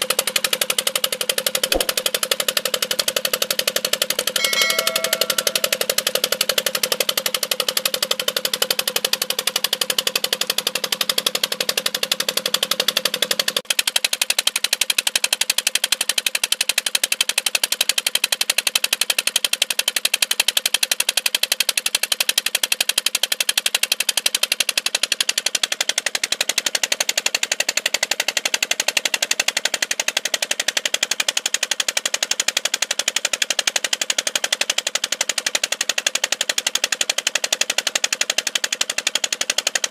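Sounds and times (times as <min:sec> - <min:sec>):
stationary engine running: 0:00.0 - 0:18.9, 0:20.1 - 0:39.9.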